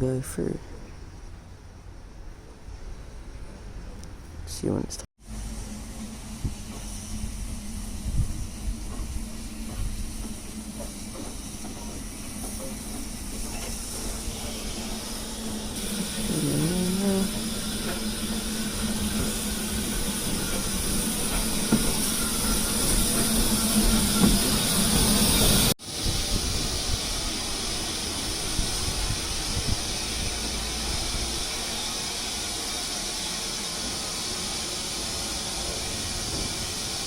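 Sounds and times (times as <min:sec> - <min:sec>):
steam hissing: 0:05.2 - 0:37.0.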